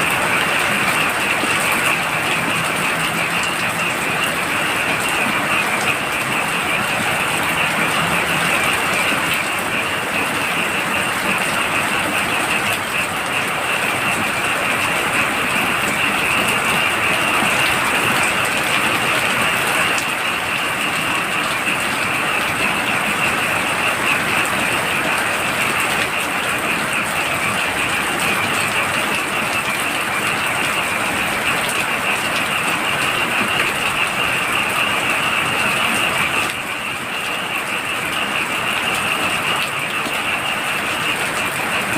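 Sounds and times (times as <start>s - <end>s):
frogs calling: 0.0s - 41.9s
heavy rain falling: 0.0s - 41.9s.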